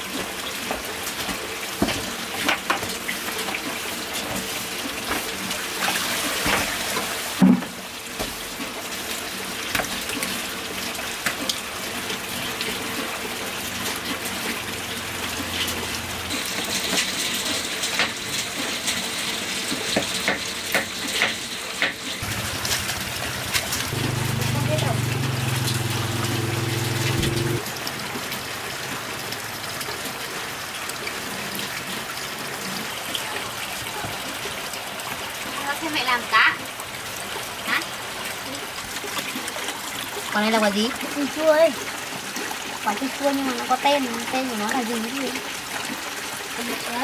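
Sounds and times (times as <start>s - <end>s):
water pouring into a basin: 0.0s - 19.9s, 22.1s - 47.0s.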